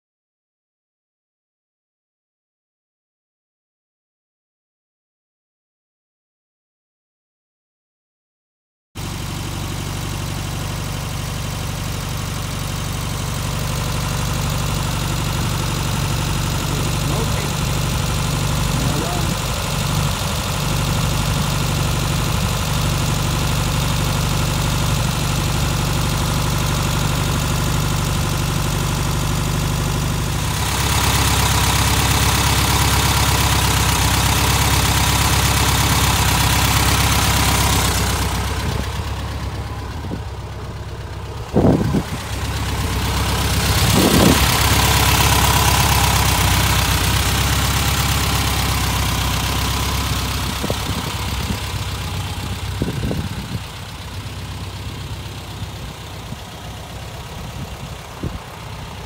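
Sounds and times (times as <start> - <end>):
car engine idling: 9.0 - 59.0.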